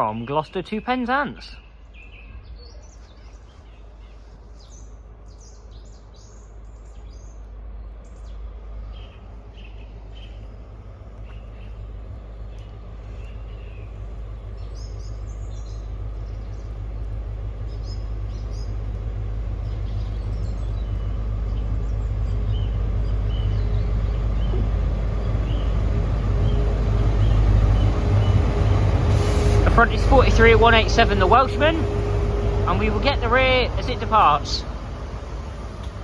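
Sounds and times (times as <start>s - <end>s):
birds chirping: 0.0s - 36.0s
diesel train rumble: 0.0s - 36.0s.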